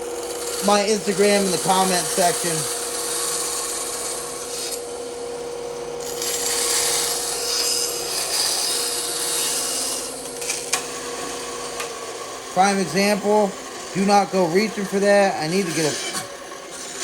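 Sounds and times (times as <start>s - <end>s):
bandsaw cutting wood: 0.0s - 17.0s.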